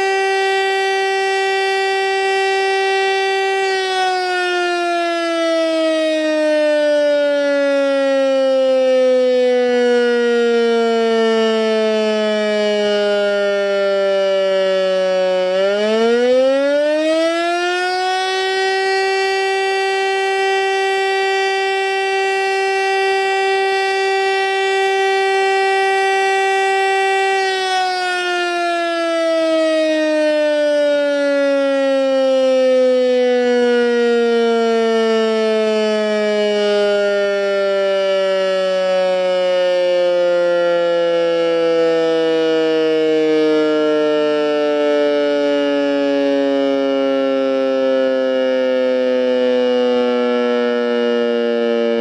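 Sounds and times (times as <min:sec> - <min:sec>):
siren winding down: 0:00.0 - 0:52.0.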